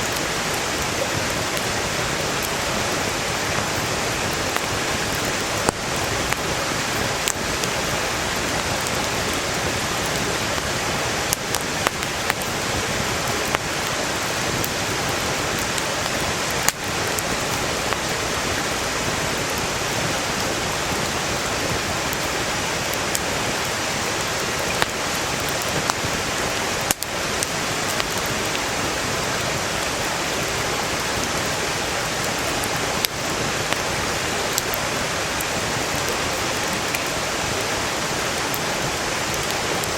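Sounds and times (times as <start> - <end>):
campfire crackling and popping: 0.0 - 39.9
stream flowing: 0.0 - 39.9.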